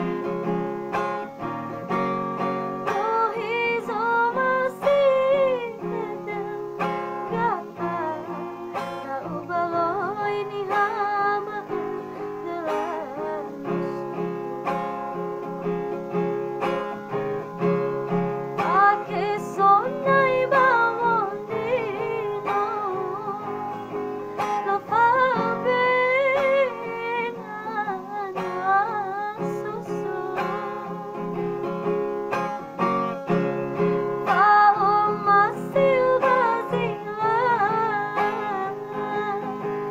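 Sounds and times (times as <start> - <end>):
guitar accompaniment: 0.0 - 39.9
woman singing: 1.9 - 15.2, 18.1 - 31.9, 33.8 - 39.9.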